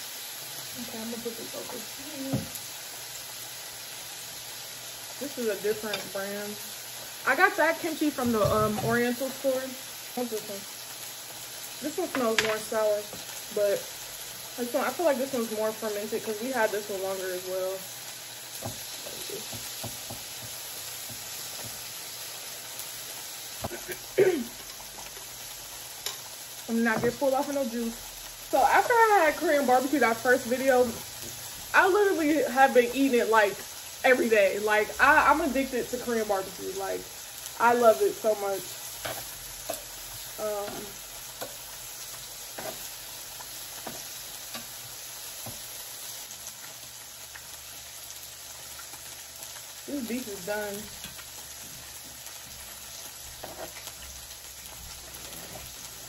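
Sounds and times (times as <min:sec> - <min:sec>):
meat sizzling on a griddle: 0:00.0 - 0:56.0.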